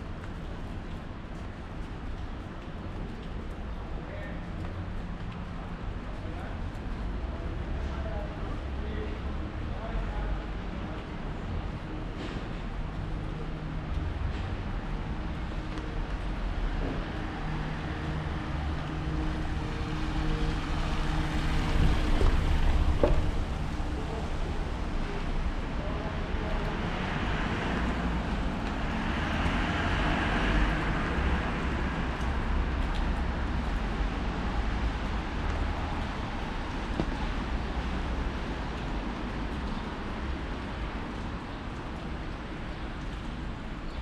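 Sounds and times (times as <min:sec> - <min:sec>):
steady rain on street: 0:00.0 - 0:44.0.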